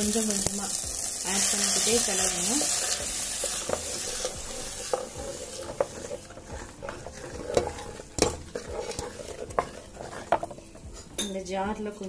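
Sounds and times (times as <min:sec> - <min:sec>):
hot pan hissing: 0:00.0 - 0:10.3
spoon scraping a pan: 0:01.4 - 0:11.3.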